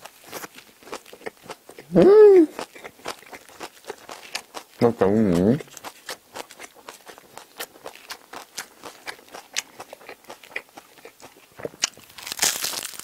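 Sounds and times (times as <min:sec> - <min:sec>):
chewing crusty bread: 0:00.0 - 0:13.0.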